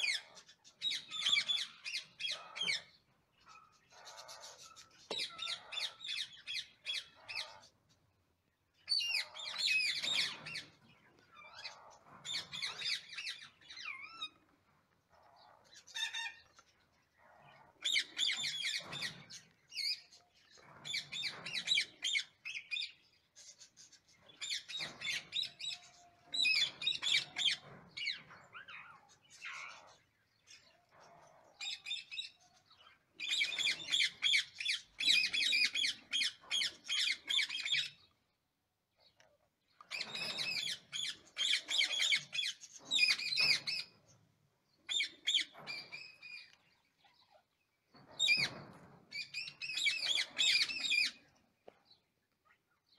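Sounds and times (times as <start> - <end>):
parakeets calling: 0.0 - 8.0, 8.7 - 14.4, 15.1 - 38.1, 39.9 - 43.9, 44.9 - 47.4, 48.2 - 51.3.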